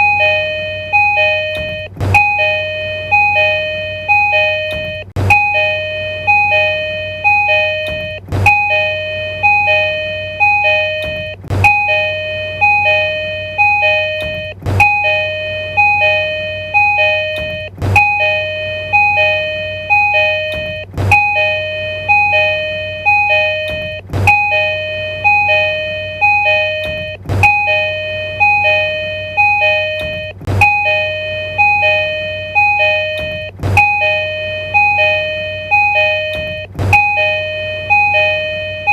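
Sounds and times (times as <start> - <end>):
steady low hum: 0.0 - 38.9
two-tone train door chime: 0.0 - 38.9.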